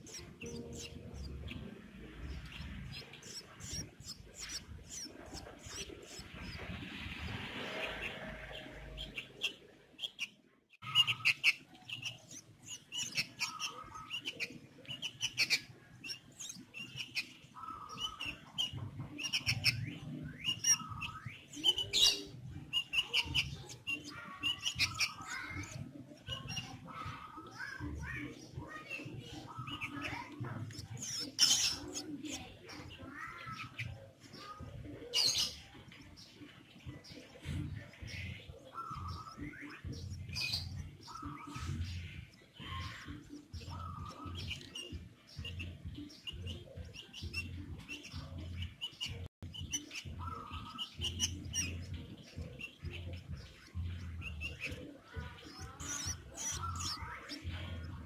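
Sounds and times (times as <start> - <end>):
bird chirps: 0.0 - 58.0.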